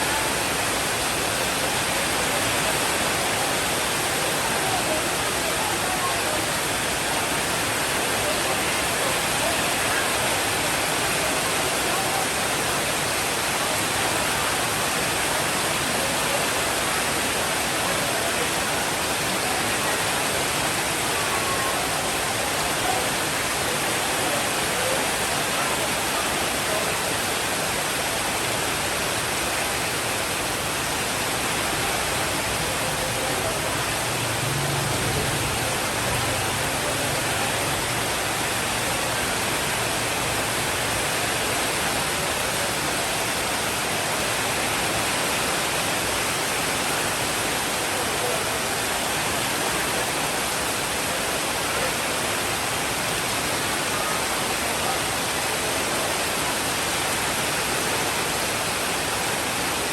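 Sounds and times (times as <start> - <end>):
dense rainfall hiss: 0.0 - 59.9.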